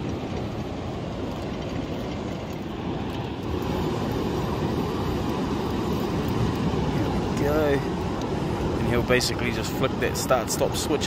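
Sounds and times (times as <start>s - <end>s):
breaking surf: 0.0s - 11.0s
wind: 0.0s - 11.0s.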